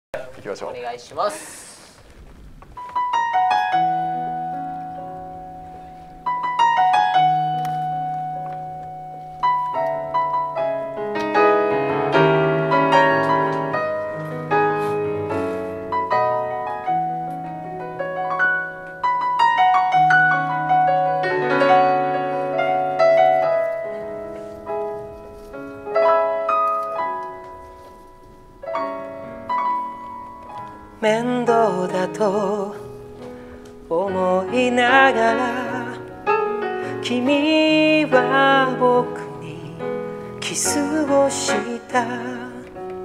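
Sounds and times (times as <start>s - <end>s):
piano chords and melody: 2.7s - 43.0s.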